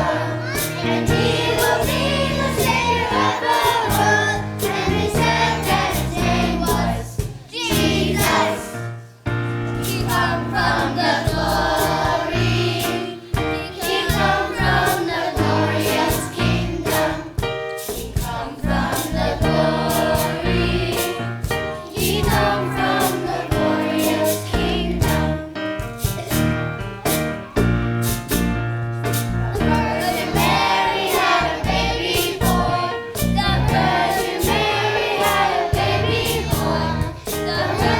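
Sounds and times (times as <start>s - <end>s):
choir singing: 0.0s - 8.9s, 9.7s - 25.6s, 29.4s - 37.9s
bass and drum beat: 0.0s - 37.9s.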